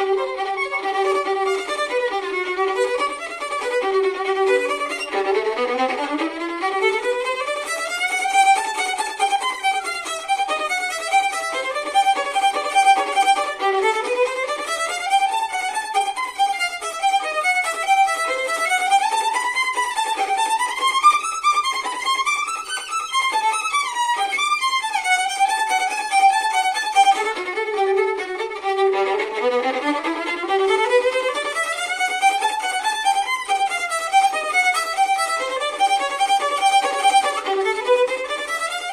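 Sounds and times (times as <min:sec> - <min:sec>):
solo violin playing: 0:00.0 - 0:38.9.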